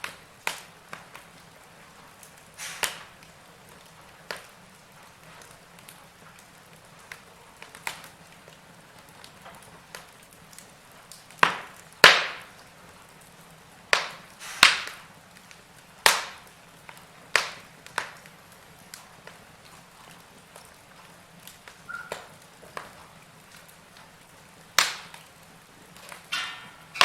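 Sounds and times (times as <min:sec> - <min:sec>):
faint steady hiss: 0:00.0 - 0:27.0
logs crackling in fireplace: 0:00.0 - 0:27.0.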